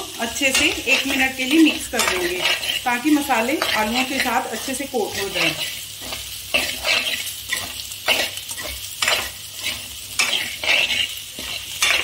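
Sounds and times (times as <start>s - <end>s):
potatoes sizzling in oil: 0.0s - 12.0s
spoon scraping steel pan: 0.4s - 12.0s.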